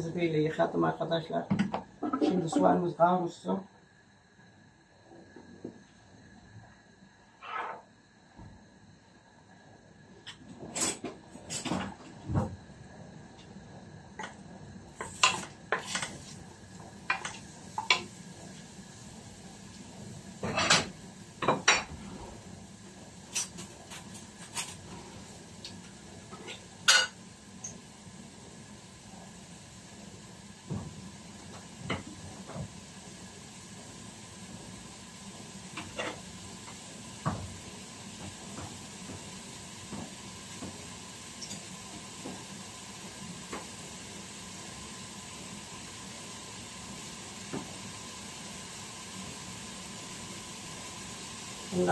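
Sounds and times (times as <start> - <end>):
onion sizzling in oil: 9.8 - 51.9.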